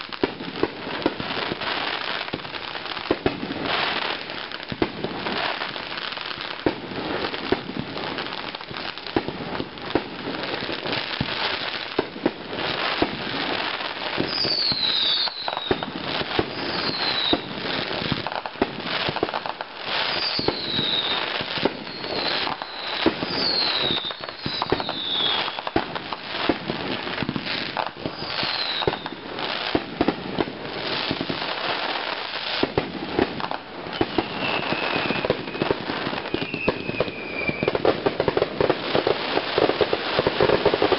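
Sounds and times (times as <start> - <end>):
fireworks crackling and popping: 0.0 - 40.9
fireworks falling whistles: 0.0 - 40.9.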